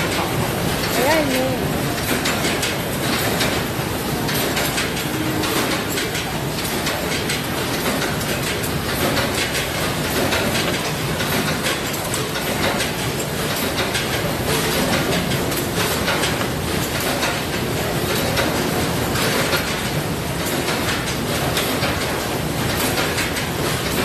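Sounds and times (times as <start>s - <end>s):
conveyor belts running: 0.0s - 24.0s
processing machinery clattering: 0.0s - 24.0s.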